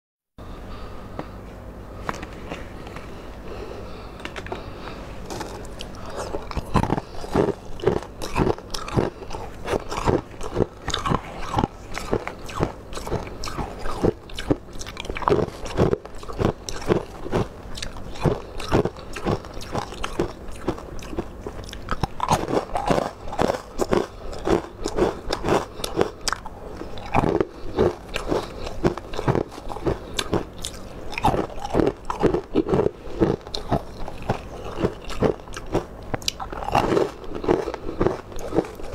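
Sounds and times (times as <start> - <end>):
crisp crunching and chewing: 4.2 - 38.9.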